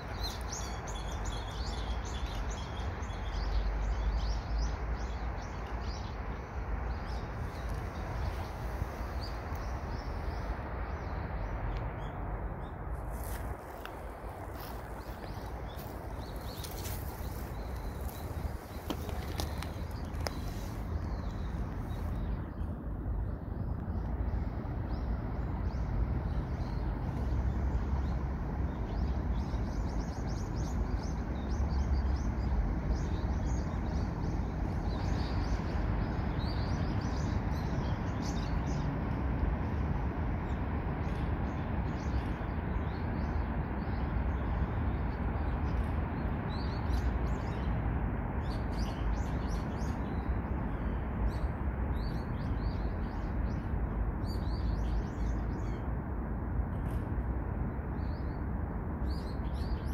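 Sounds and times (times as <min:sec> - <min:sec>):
small birds chirping: 0:00.0 - 0:39.8, 0:40.4 - 0:47.8, 0:48.4 - 0:55.9, 0:59.0 - 0:59.9
outdoor hum with low rumble: 0:00.0 - 0:59.9.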